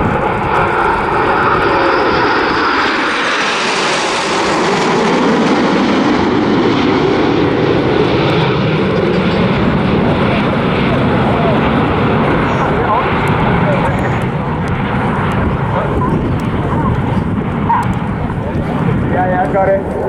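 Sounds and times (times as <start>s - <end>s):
jets flying past roaring: 0.0s - 20.0s.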